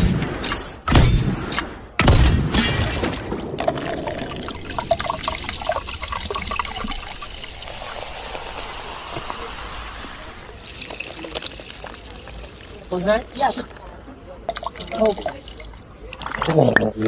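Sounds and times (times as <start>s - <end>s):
liquid pouring and trickling: 3.0s - 17.0s.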